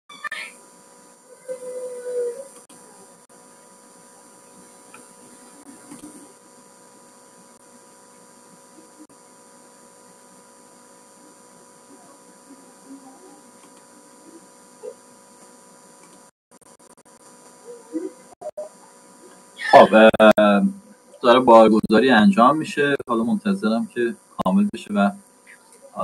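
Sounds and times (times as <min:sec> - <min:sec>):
steady electrical hum: 0:00.1 - 0:26.0.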